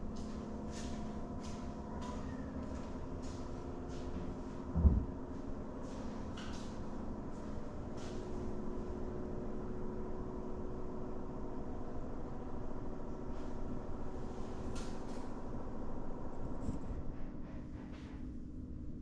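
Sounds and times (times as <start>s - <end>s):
machine hum with held tones: 0.0s - 19.0s.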